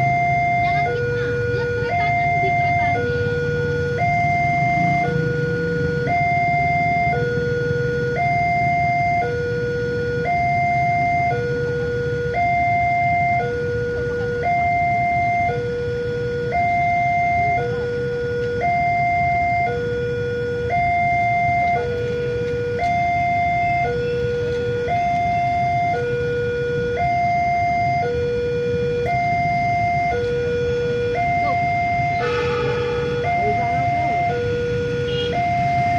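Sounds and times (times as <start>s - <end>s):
level crossing two-tone alarm: 0.0s - 35.9s.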